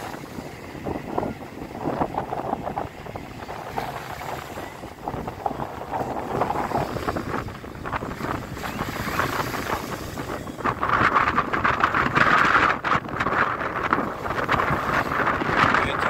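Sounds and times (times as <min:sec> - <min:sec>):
waves splashing against sea wall: 0:00.0 - 0:16.0
wind buffeting microphone: 0:00.0 - 0:16.0.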